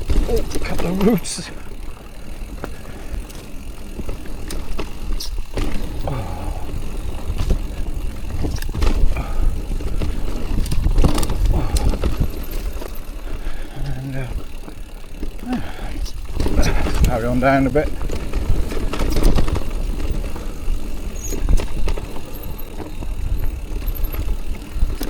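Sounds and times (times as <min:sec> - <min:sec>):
chain and frame rattling: 0:00.0 - 0:25.0
low rumble of tyres and air: 0:00.0 - 0:25.0.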